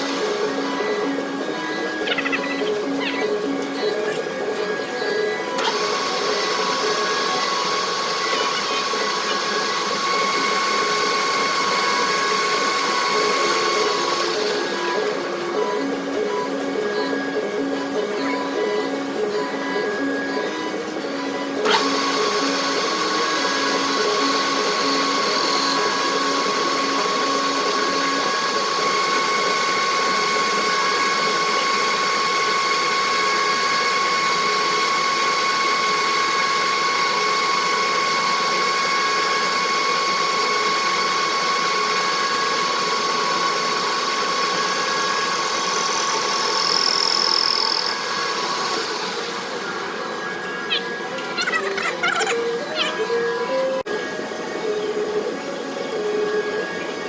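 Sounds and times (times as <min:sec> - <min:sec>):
metal cutting noise: 0:00.0 - 0:57.0
metal lathe whine: 0:00.0 - 0:57.0.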